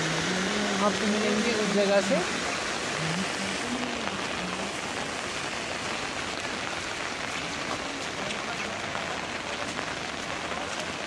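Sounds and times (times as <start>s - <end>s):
heavy rain on grass: 0.0s - 11.0s.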